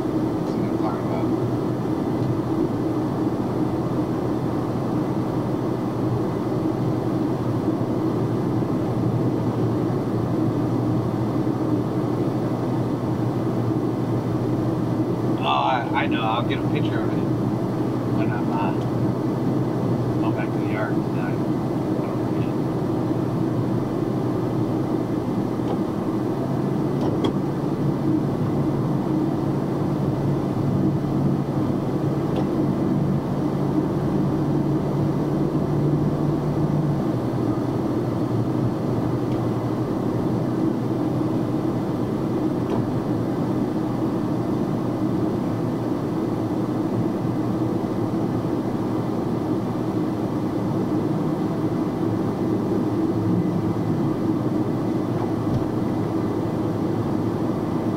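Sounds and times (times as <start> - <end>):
road noise: 0.0 - 57.9
truck engine hum: 0.0 - 57.9.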